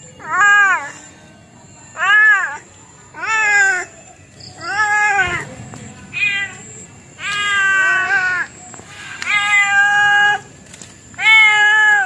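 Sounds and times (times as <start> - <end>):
cat meowing: 0.2 - 1.1, 1.9 - 4.0, 4.6 - 10.5, 11.2 - 12.0.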